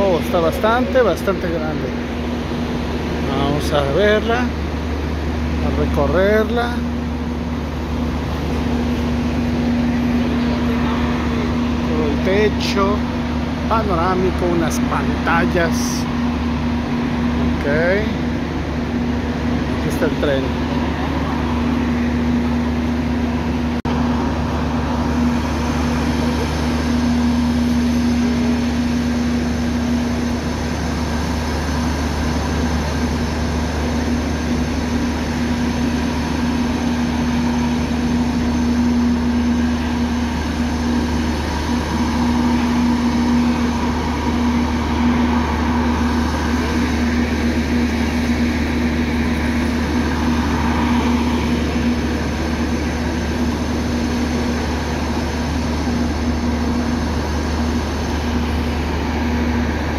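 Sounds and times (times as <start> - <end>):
train machinery idling drone: 0.0 - 59.9.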